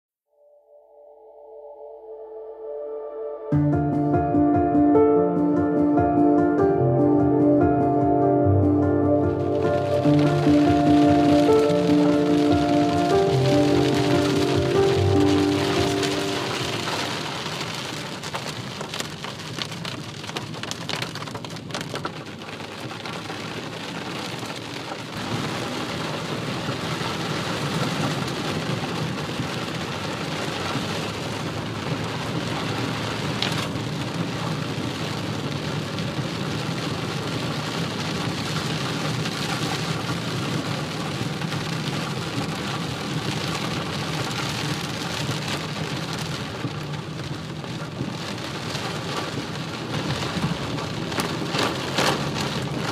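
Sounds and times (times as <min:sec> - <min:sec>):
heavy rain on car roof: 0:09.3 - 0:52.9.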